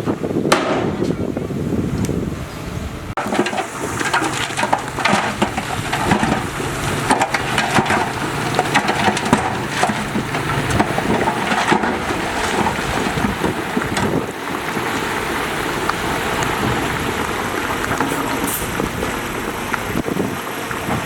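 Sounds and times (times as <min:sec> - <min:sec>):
heavy machine engine hum: 0:00.0 - 0:21.0
soil and stones crunching: 0:03.2 - 0:21.0.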